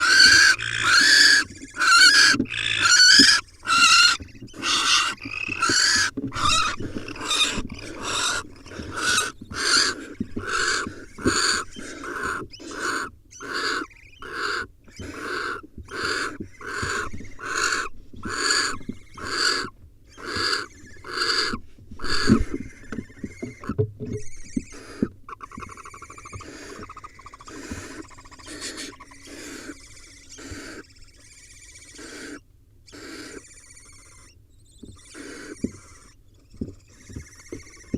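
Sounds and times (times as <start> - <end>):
owl nestlings hissing calls: 0.0 - 37.9.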